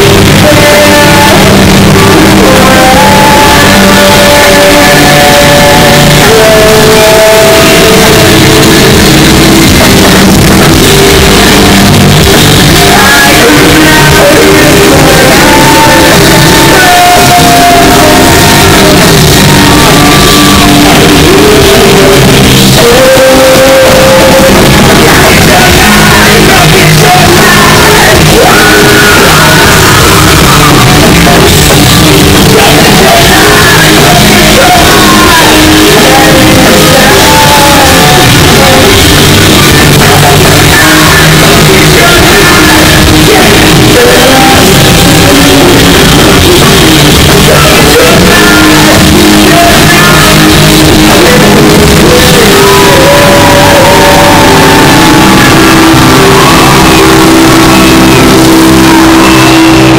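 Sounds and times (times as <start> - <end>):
distorted electric guitar: 0.0 - 59.9
drums: 0.0 - 59.9
man shouting and singing: 0.0 - 59.9.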